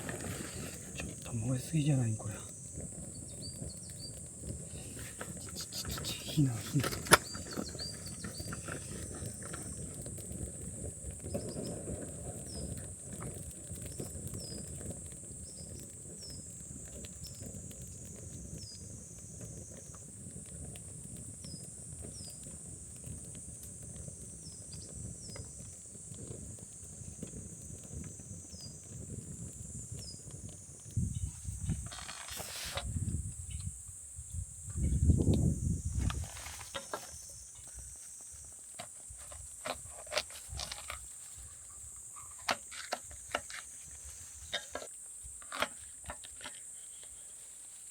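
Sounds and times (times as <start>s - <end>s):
insect chorus chirping: 0.0s - 10.4s, 14.0s - 20.0s, 21.4s - 47.9s
campfire crackling: 0.0s - 47.9s.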